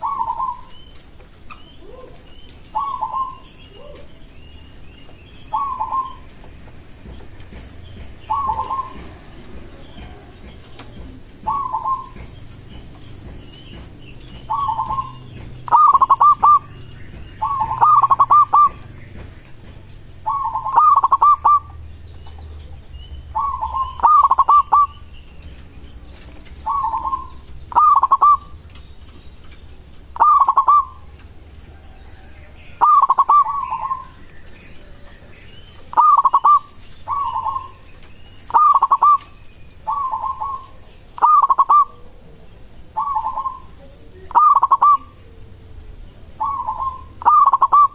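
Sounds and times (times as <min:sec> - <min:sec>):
dove cooing: 0:00.0 - 0:25.5, 0:26.1 - 0:28.8, 0:30.0 - 0:47.9.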